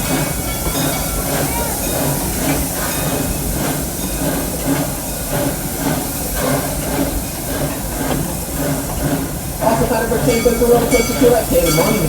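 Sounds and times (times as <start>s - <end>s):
steam train hiss: 0.0s - 12.0s
train cars rumbling on track: 0.0s - 12.0s.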